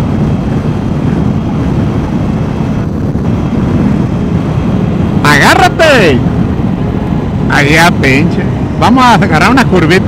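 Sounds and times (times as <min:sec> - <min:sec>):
motorcycle engine drone: 0:00.0 - 0:10.0
road rumble: 0:00.0 - 0:10.0
wind buffeting microphone: 0:00.0 - 0:10.0.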